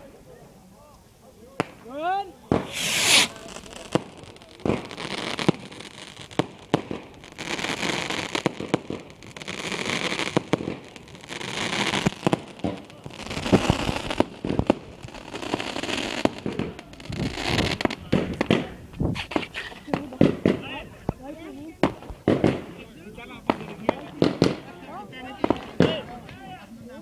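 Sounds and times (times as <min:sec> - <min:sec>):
fireworks bangs and crackles: 0:01.6 - 0:27.0.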